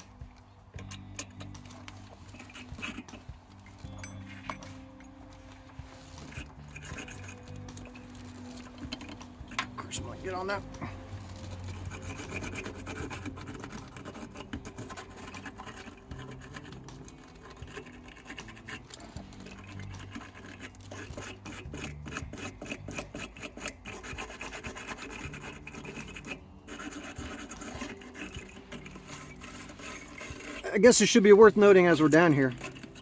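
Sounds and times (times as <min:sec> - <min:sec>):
scrubbing battery terminal: 0:00.0 - 0:33.0.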